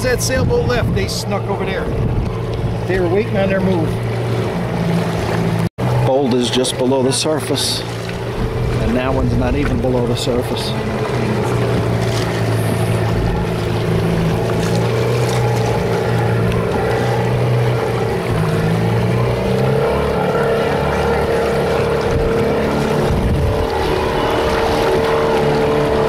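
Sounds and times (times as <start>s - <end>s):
boat engine droning: 0.0s - 26.0s
wind and water rushing: 0.0s - 26.0s.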